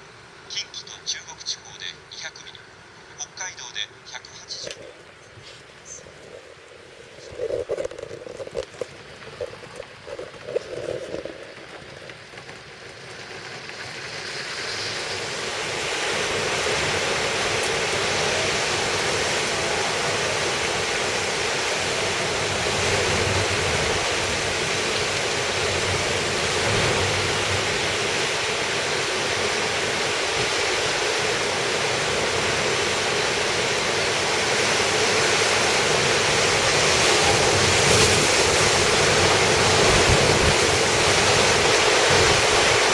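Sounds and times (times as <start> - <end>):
strong wind: 6.0 - 13.1, 13.9 - 42.9
heavy rain: 6.5 - 42.9.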